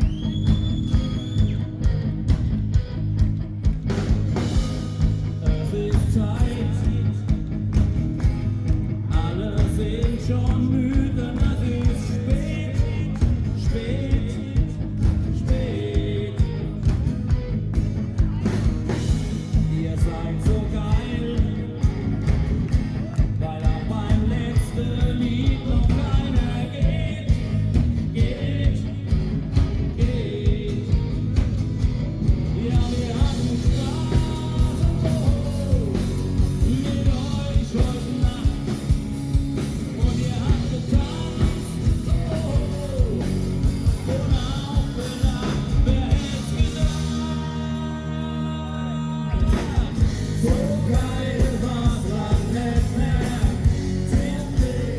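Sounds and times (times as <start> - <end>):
live band playing upbeat song: 0.0 - 54.9
lead singer singing: 4.4 - 54.9.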